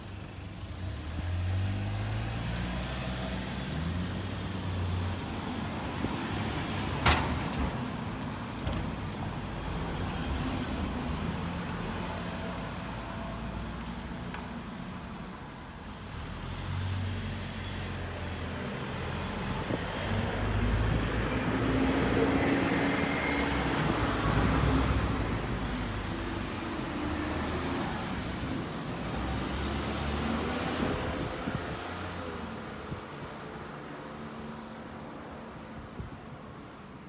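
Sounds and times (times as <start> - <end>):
vehicles passing close by: 0.0 - 37.0.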